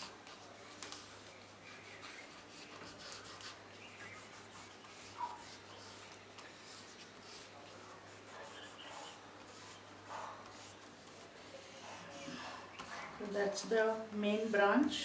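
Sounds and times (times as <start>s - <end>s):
oil pastel scratching on paper: 0.0s - 15.0s.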